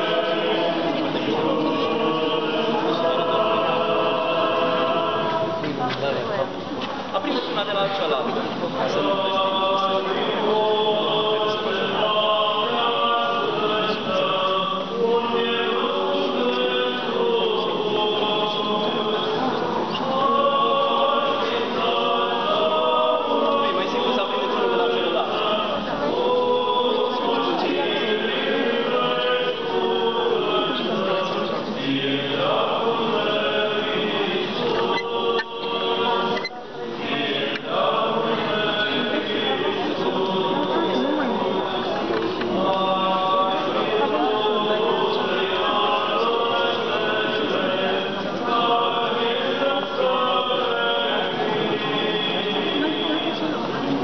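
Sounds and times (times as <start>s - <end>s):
choir chanting in church: 0.0s - 54.0s.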